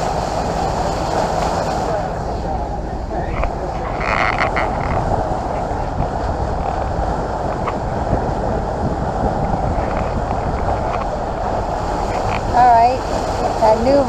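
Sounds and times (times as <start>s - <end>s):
boat engine rumble: 0.0s - 14.0s
rushing water: 0.0s - 14.0s
wind on microphone: 0.0s - 14.0s.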